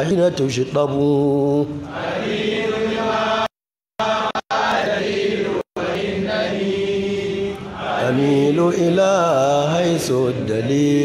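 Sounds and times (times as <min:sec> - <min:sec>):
voices chanting a devotional poem: 0:00.0 - 0:11.0.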